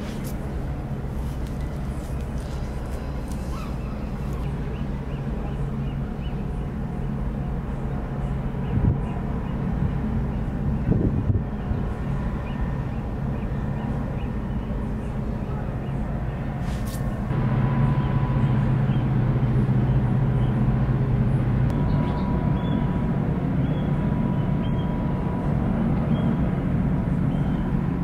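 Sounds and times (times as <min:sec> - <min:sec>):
faint steady whine: 0:00.0 - 0:28.0
ferry engine drone: 0:00.0 - 0:28.0.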